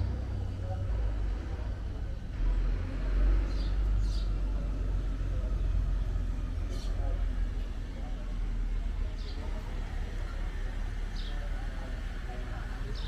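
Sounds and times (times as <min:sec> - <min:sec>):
faint background voices: 0:00.0 - 0:13.0.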